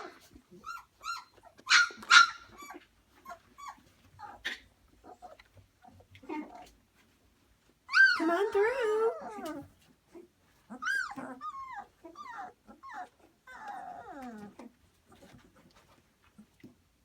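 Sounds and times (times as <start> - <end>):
puppies whining and crying: 0.0 - 6.8, 7.8 - 15.6.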